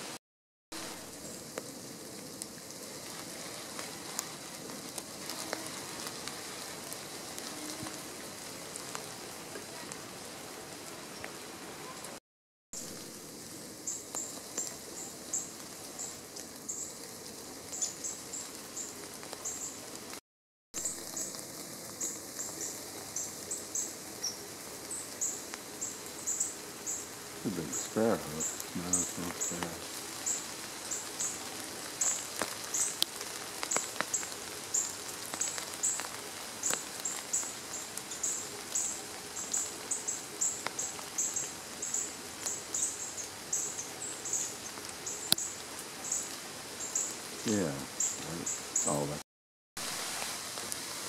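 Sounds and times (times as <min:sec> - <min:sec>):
rain pattering on leaves: 0:00.0 - 0:12.2, 0:12.8 - 0:20.2, 0:20.8 - 0:49.2, 0:49.8 - 0:51.0.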